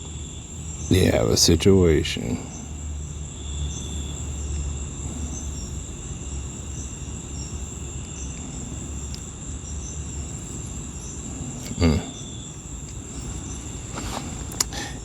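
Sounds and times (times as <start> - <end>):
insects trilling: 0.0 - 15.0
steady low hum: 0.0 - 15.0.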